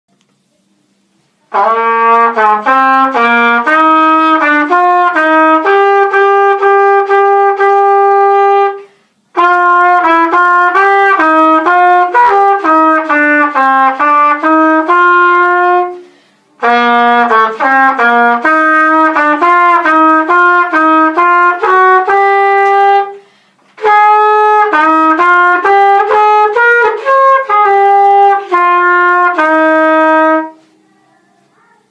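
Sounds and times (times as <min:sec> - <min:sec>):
solo trumpet melody: 0:01.4 - 0:30.7.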